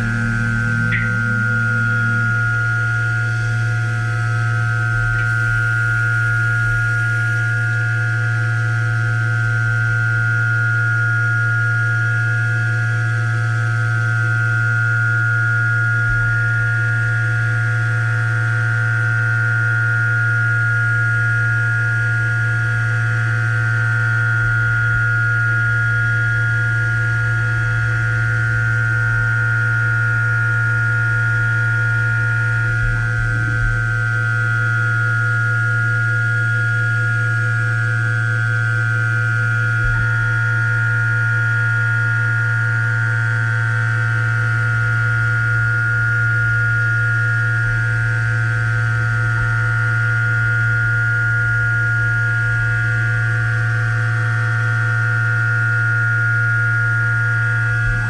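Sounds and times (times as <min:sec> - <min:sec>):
milling machine hum and whine: 0:00.0 - 0:58.0.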